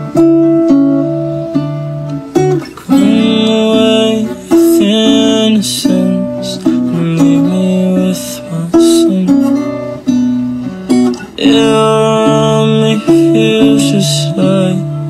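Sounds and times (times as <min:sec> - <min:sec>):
plucked notes melody: 0:00.0 - 0:15.0.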